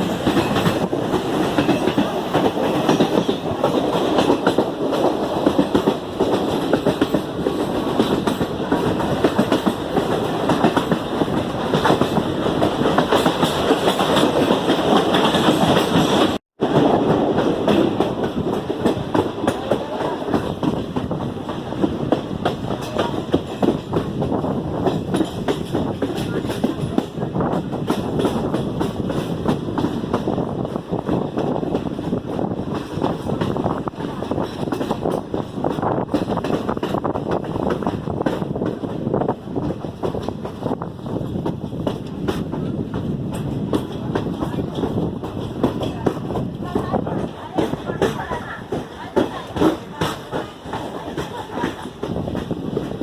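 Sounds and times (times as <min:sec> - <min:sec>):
rail joint clicks: 0:00.0 - 0:53.0
train wheels rumbling on rails: 0:00.0 - 0:53.0.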